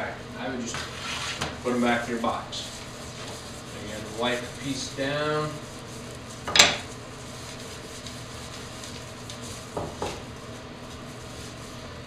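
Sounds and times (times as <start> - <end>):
cloth rag wiping wood: 0.5 - 12.0.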